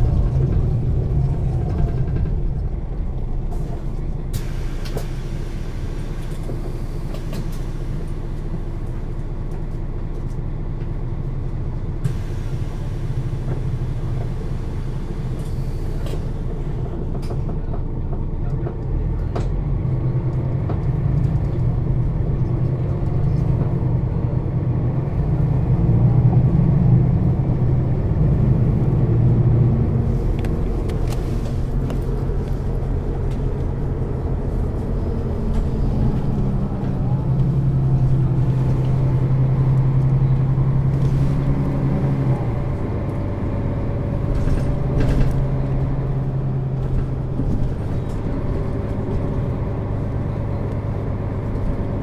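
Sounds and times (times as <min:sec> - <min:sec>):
bus diesel engine droning: 0:00.0 - 0:52.0.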